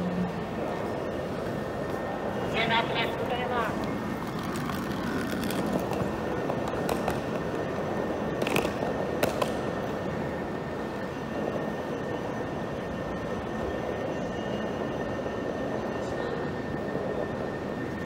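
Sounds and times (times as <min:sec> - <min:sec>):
thin constant whine: 0:00.0 - 0:18.0.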